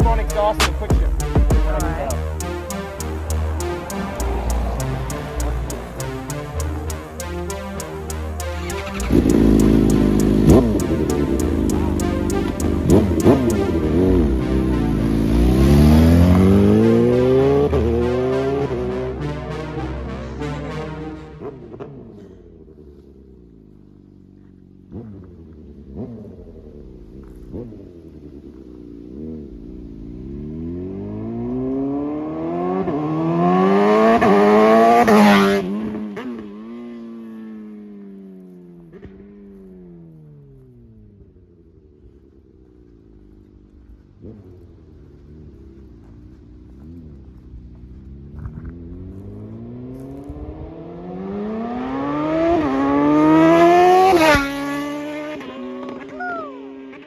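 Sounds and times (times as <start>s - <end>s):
motorcycle engine accelerating hard: 0.0s - 57.0s.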